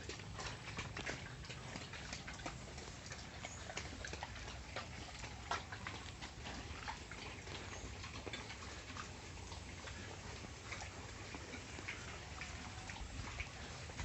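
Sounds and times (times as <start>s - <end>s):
pigs making soft clicks: 0.0s - 14.0s.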